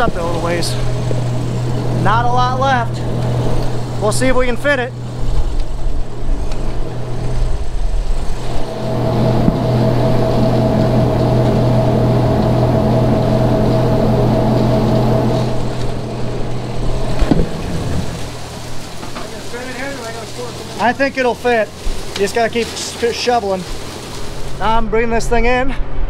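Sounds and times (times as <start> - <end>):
truck engine humming: 0.0 - 25.2
steady whine: 0.0 - 26.0.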